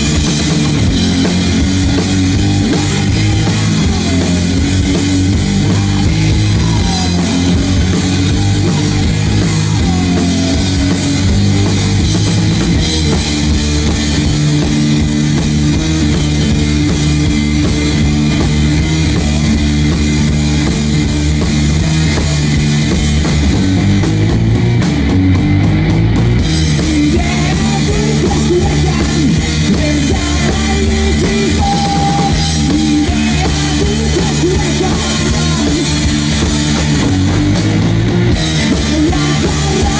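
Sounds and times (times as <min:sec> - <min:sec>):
drum kit playing: 0:00.0 - 0:39.9
electric guitar: 0:00.0 - 0:39.9.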